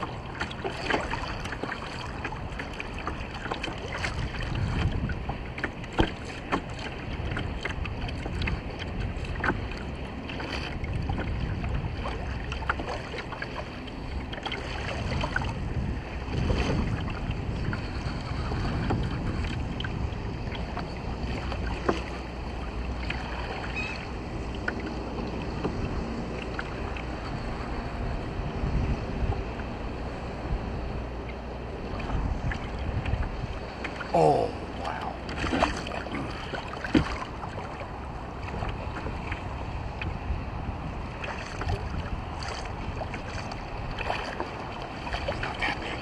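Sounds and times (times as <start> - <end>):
water slapping against a hull: 0.0 - 46.0
wind rumbling on microphone: 0.0 - 46.0.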